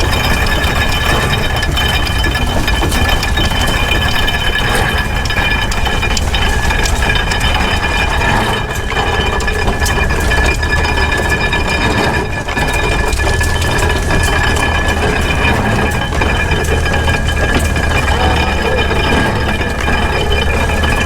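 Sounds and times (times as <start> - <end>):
high-pitched whining tones: 0.0 - 21.0
machinery clattering: 0.0 - 21.0.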